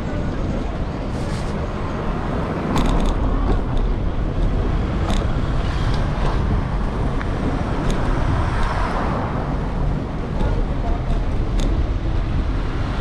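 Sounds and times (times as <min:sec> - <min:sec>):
street traffic: 0:00.0 - 0:13.0
wind rumbling on microphone: 0:00.0 - 0:13.0.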